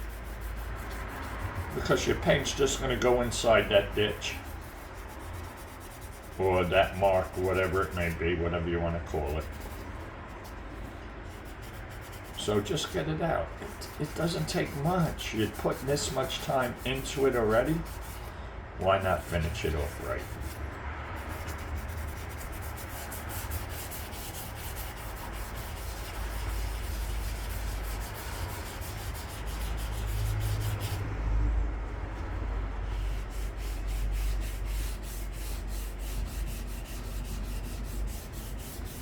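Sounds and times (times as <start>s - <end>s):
sandpaper rubbing by hand: 0.0s - 8.3s, 9.1s - 10.6s, 11.3s - 18.3s, 18.9s - 20.6s, 21.2s - 31.0s, 32.8s - 39.0s.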